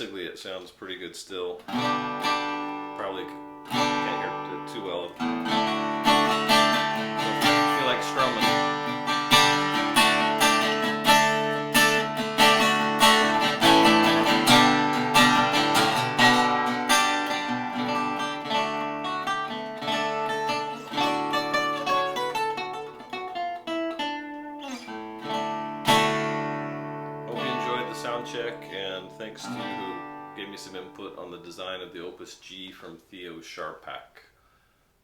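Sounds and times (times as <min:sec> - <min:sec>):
guitar strumming: 0:01.0 - 0:32.2.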